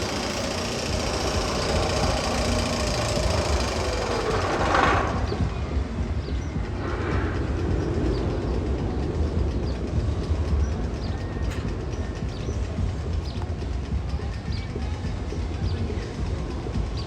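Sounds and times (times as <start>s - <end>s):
roller coaster rumbling on track: 0.0s - 17.0s
wheels clattering: 0.0s - 17.0s.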